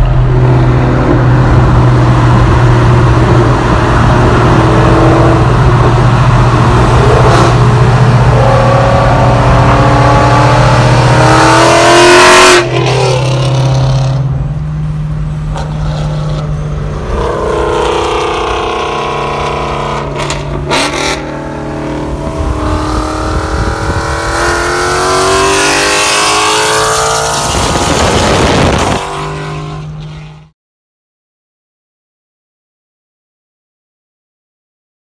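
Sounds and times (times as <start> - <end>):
vee eight car engine droning: 0.0 - 30.4.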